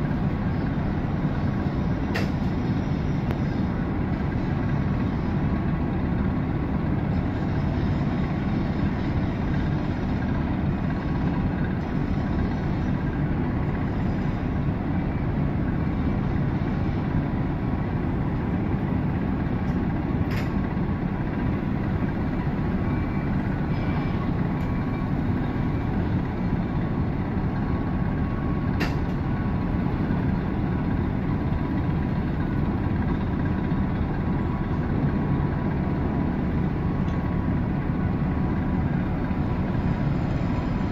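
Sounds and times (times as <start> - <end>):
ship machinery rumbling: 0.0 - 40.9.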